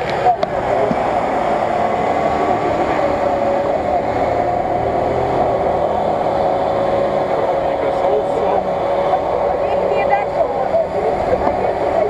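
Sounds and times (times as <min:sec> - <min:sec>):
off-road vehicle engine under load: 0:00.0 - 0:12.0
vehicle wading through muddy water: 0:00.0 - 0:12.0.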